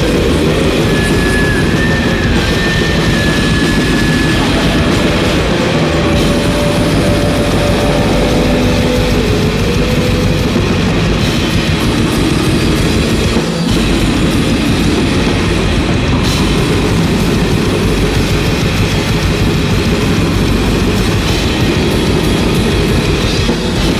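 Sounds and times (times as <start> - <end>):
distorted guitars and drums: 0.0 - 23.9.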